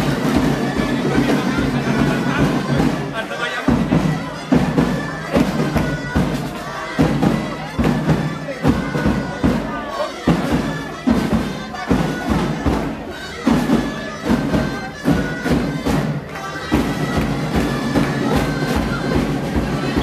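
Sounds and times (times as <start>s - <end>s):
drum beating steadily: 0.0s - 20.0s
reed pipes playing melody: 0.0s - 20.0s.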